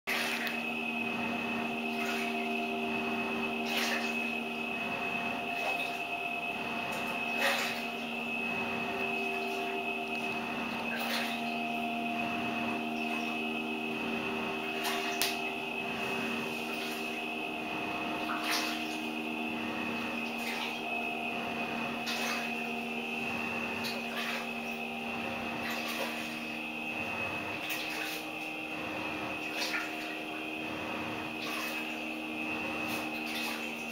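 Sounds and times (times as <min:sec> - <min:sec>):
washing machine swishes: 0:00.1 - 0:00.5, 0:01.1 - 0:33.9
washing machine motor hum: 0:00.1 - 0:33.9.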